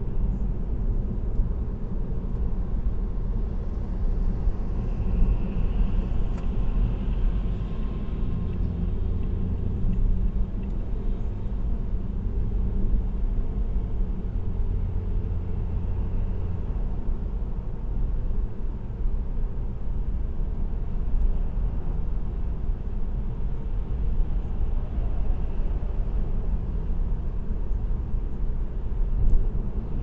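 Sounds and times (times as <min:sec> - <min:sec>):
car engine drone: 0:00.0 - 0:30.0.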